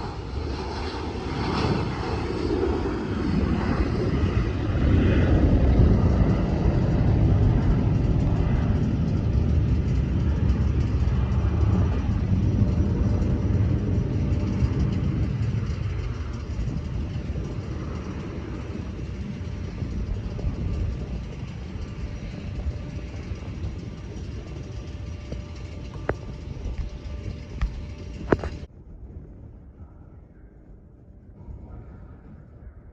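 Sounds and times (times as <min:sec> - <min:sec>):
airplane engine rumble: 0:00.0 - 0:32.9.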